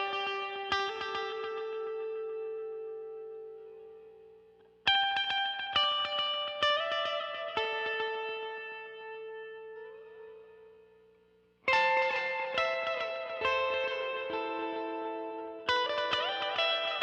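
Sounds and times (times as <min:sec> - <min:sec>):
electric guitar with echo: 0:00.0 - 0:17.0.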